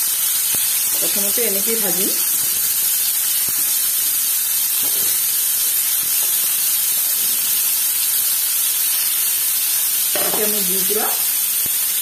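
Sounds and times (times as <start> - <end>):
vegetable slices sizzling in oil: 0.0 - 12.0.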